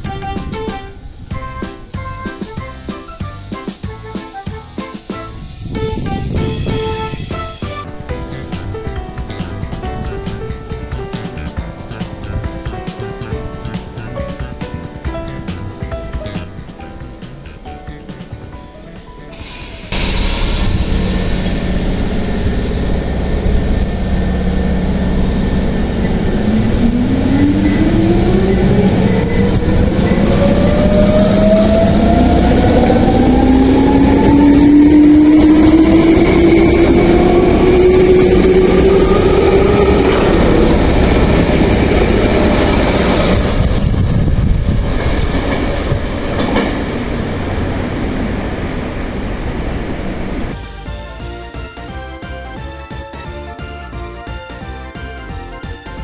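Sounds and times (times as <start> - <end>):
train wheels rumbling: 0.0 - 51.8
electric train motor whine: 1.0 - 50.6.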